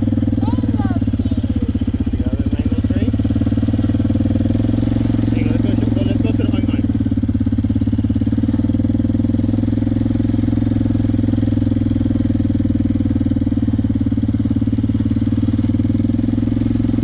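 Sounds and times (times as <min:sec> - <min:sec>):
small gasoline engine idling: 0:00.0 - 0:17.0.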